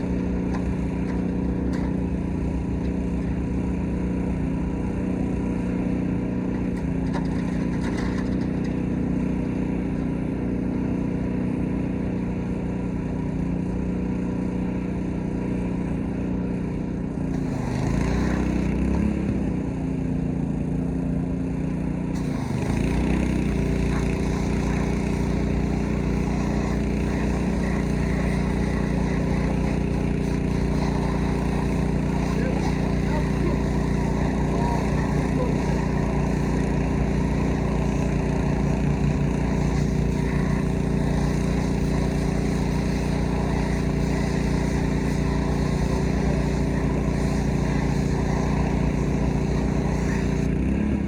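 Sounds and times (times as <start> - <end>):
pressure washer engine running: 0.0 - 51.0.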